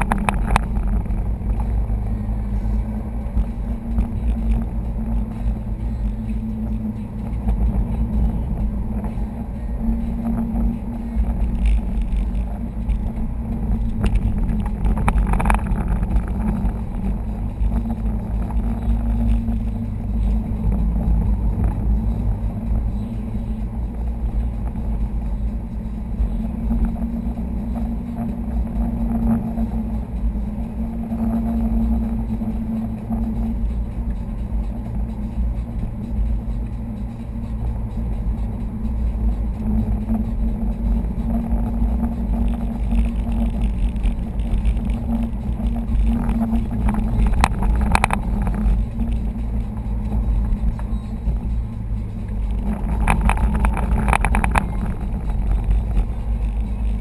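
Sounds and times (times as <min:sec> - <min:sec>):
engine and tyre rumble: 0:00.0 - 0:57.0
steady hum: 0:00.0 - 0:57.0.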